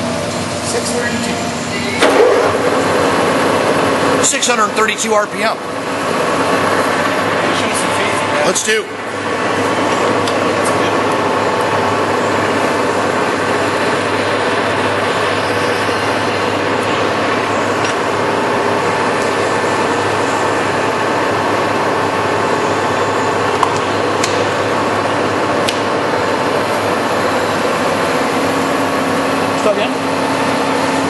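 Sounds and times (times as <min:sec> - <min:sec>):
lathe running with mechanical hum: 0:00.0 - 0:31.0.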